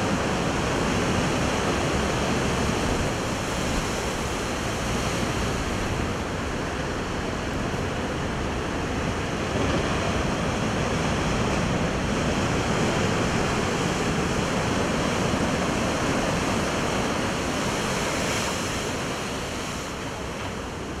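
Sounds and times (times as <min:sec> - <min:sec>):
surf breaking over rocks: 0:00.0 - 0:21.0.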